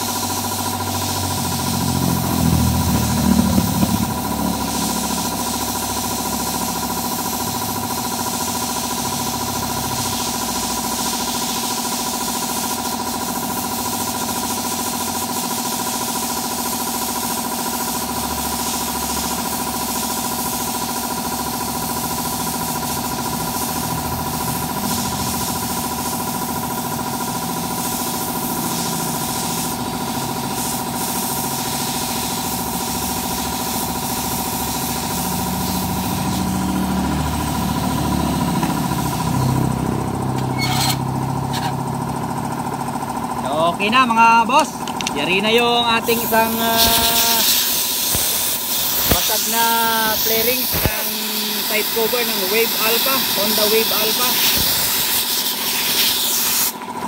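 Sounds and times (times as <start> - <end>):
small motor humming: 0.0 - 43.0, 44.9 - 56.9.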